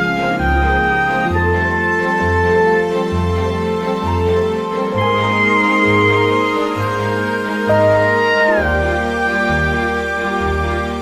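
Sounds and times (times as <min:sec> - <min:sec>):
slow soft instrumental music: 0:00.0 - 0:11.0.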